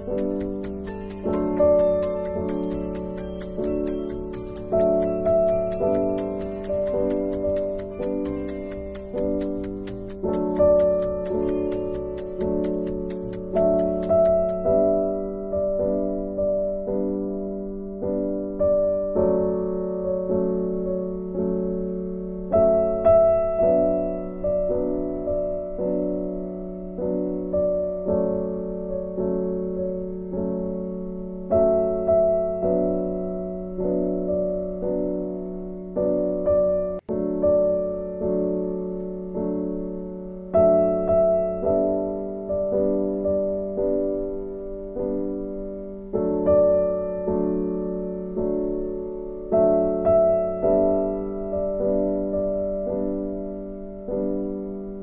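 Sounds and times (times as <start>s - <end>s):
gentle piano melody: 0.0s - 55.0s.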